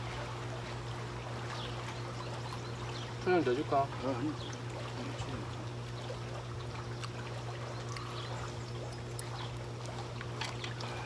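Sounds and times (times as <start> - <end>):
steady low hum: 0.0 - 11.0
water bubbling at a boil: 0.0 - 11.0.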